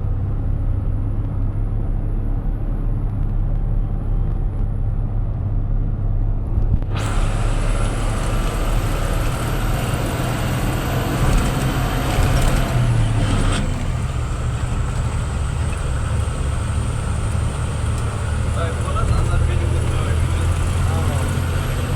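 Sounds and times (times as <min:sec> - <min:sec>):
vehicle engine and road rumble: 0:00.0 - 0:21.9.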